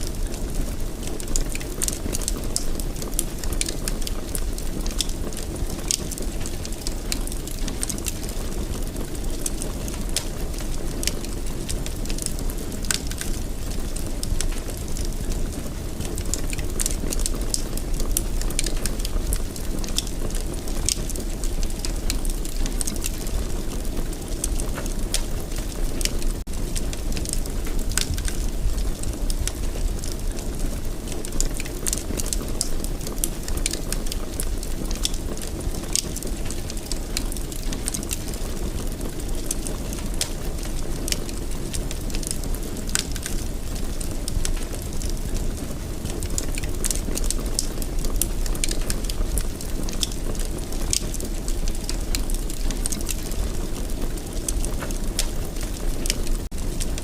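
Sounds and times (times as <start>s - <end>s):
fire crackling and popping: 0.0s - 57.0s
wood fire rumbling: 0.0s - 57.0s.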